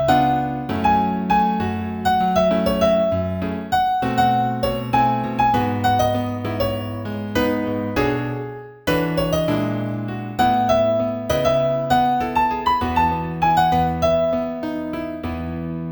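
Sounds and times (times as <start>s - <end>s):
solo piano tune: 0.0s - 15.9s.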